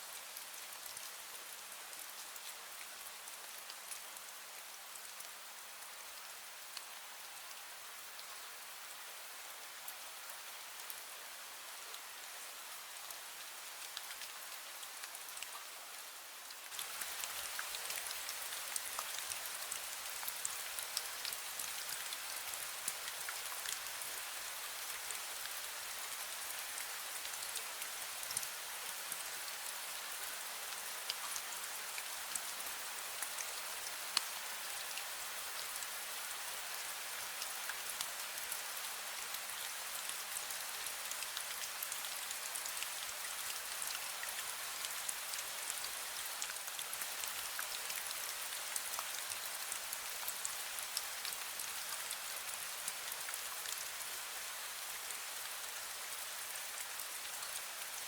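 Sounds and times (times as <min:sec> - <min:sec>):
light rain pattering: 0:00.0 - 0:58.0.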